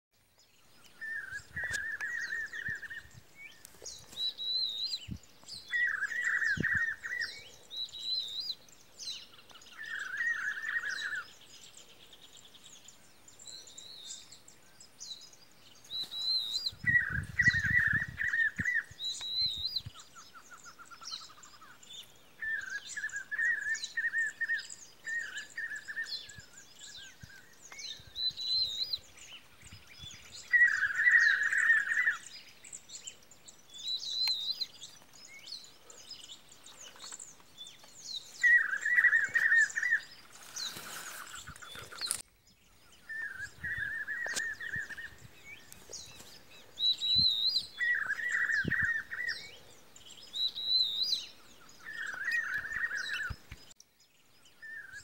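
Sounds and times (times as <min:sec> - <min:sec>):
birds chattering: 0:00.4 - 0:55.0
sharp bird chirps: 0:00.5 - 0:55.0.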